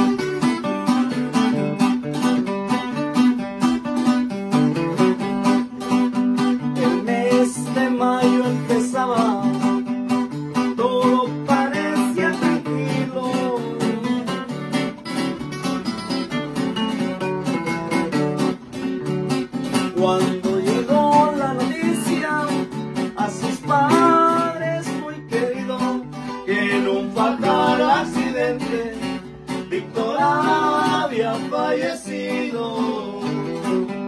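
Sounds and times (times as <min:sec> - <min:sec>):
plucked acoustic guitar melody: 0:00.0 - 0:34.0
rhythmic guitar accompaniment: 0:00.0 - 0:34.0.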